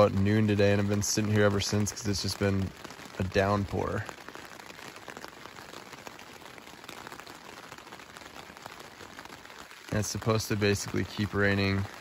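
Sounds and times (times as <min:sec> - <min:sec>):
rain on tent fabric: 0:00.0 - 0:12.0.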